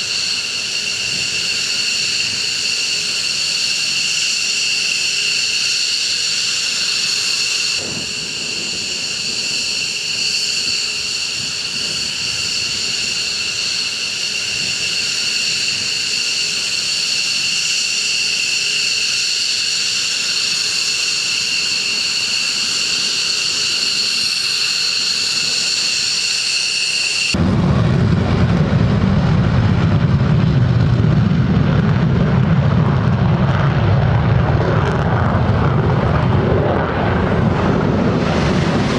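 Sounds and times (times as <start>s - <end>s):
deep jet rumble: 0.0s - 38.9s
jet engines whining: 0.0s - 38.9s.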